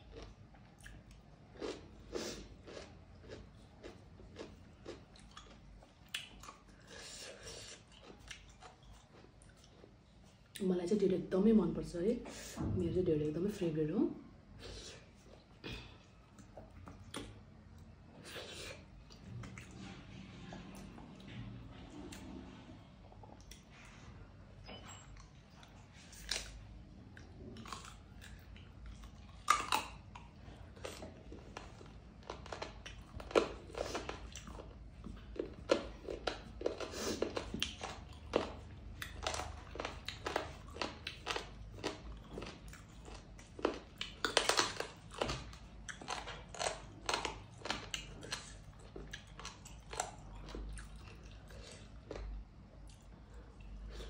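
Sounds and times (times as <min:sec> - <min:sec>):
person chewing food: 0:00.0 - 0:10.6, 0:14.6 - 0:54.0.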